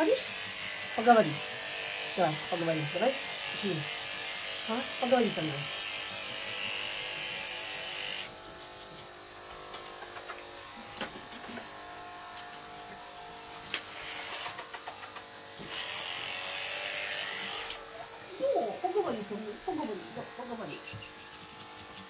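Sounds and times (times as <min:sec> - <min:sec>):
electric hair trimmer buzzing: 0:00.0 - 0:22.0.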